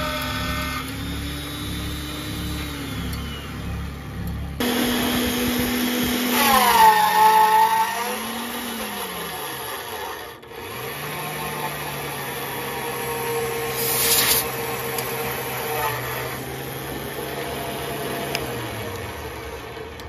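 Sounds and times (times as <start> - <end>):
drill press motor drilling steel: 0.0 - 20.0.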